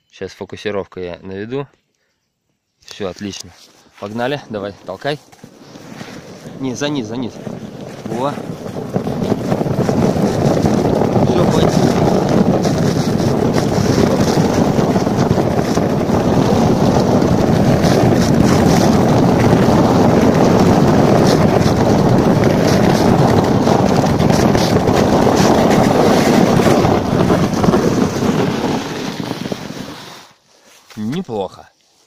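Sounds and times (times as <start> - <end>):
sled scraping on snow: 3.7 - 31.5
wind on microphone: 4.1 - 30.3.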